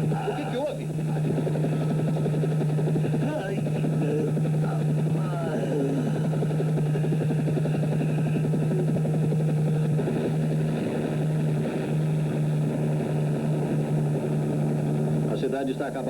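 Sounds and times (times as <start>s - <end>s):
helicopter engine hum: 0.0s - 16.0s
helicopter rotor blades chopping: 0.0s - 16.0s.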